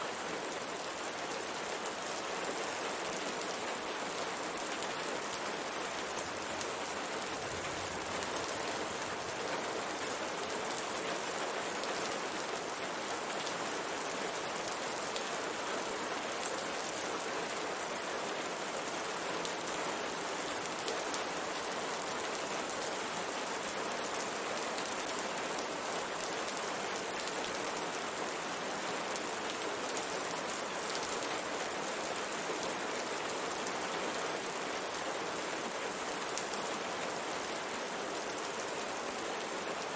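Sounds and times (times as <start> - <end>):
rain pattering on a window: 0.2 - 39.9.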